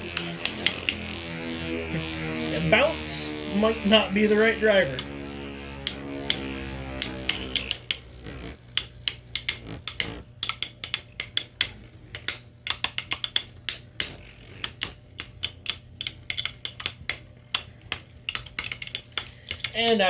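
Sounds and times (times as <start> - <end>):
plastic spinning tops clashing: 0.0 - 3.3, 4.9 - 20.0.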